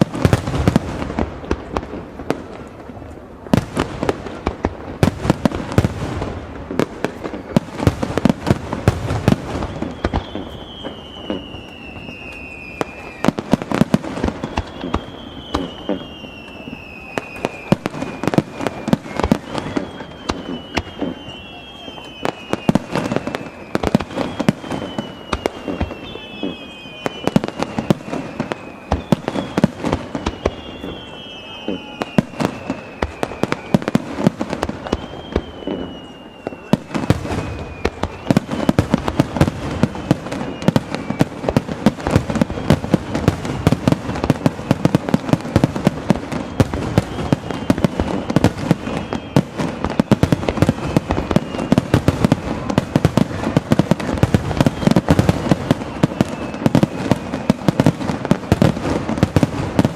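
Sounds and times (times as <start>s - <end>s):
fireworks bangs and crackling: 0.0s - 59.9s
whistling firework shells: 0.0s - 59.9s.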